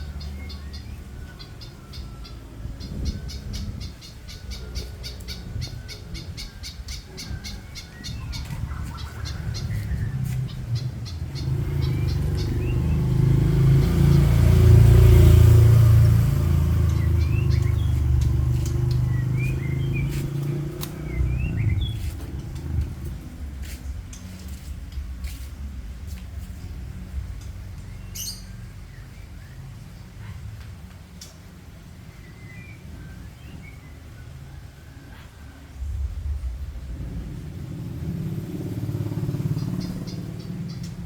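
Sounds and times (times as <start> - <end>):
songbird chirping rapidly: 0.0 - 25.5, 26.4 - 41.0
passing vehicle engine rumble: 0.0 - 41.0.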